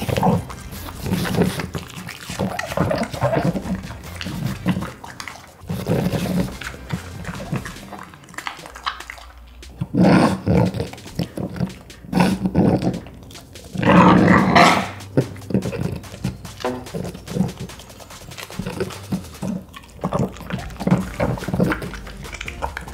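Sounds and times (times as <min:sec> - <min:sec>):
dog chewing: 0:00.0 - 0:22.9
dog sounds: 0:00.0 - 0:22.9.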